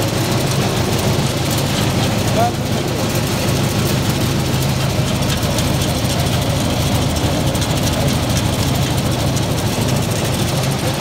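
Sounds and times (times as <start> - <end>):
pellet mill humming: 0.0 - 11.0.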